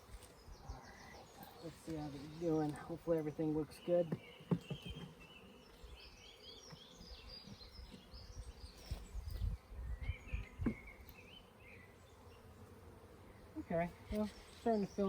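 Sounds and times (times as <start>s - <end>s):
honeybees humming: 0.0s - 15.0s
small birds chirping: 0.0s - 15.0s.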